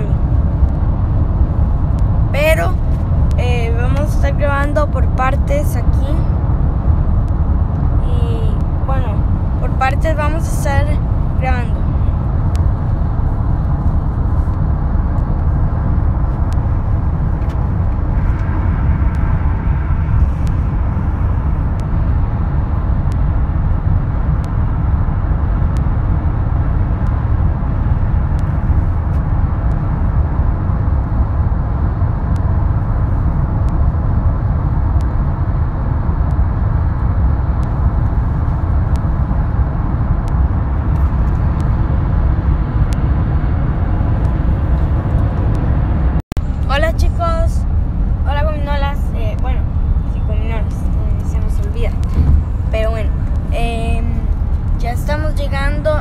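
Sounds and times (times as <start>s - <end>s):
car driving road noise: 0.0s - 56.0s.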